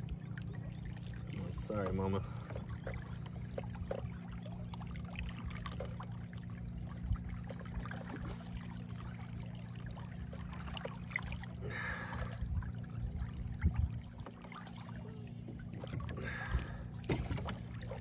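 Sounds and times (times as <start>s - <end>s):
boat motor idling: 0.0s - 18.0s
water splashing against hull: 0.0s - 18.0s.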